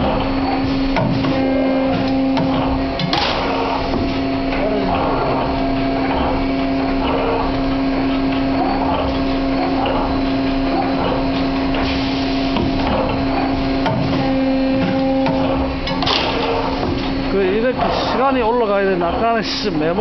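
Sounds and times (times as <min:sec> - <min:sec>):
mechanical working noise: 0:00.0 - 0:20.0
wire bending machine humming: 0:00.0 - 0:20.0.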